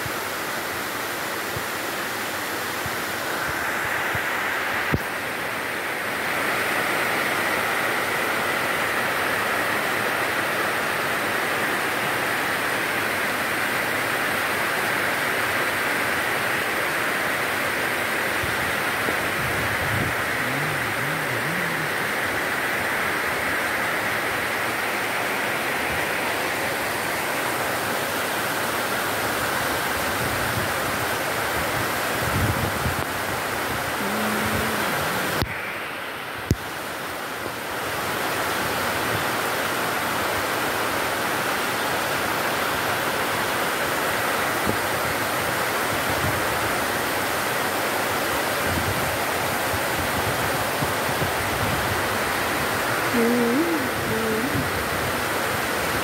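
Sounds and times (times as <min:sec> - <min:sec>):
torrential rain pouring: 0:00.0 - 0:56.0.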